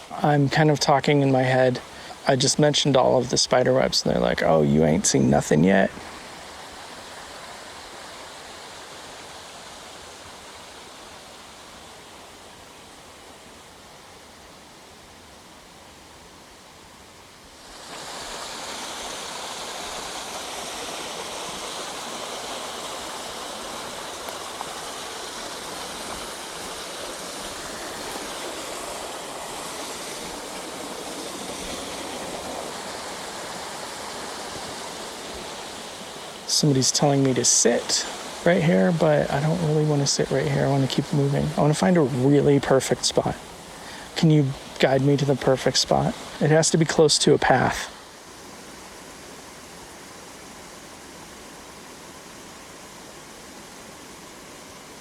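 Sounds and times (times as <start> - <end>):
forest stream rushing: 0.0 - 55.0.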